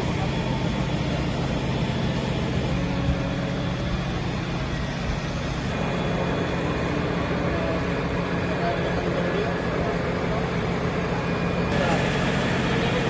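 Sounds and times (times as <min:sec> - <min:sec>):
diesel engines idling: 0:00.0 - 0:13.0
street noise: 0:00.0 - 0:13.0.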